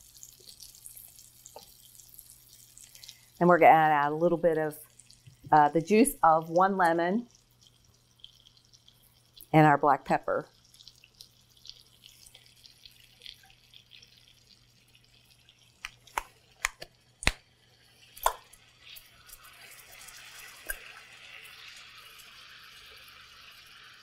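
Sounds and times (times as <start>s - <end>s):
fish sizzling in butter: 0.0s - 24.0s.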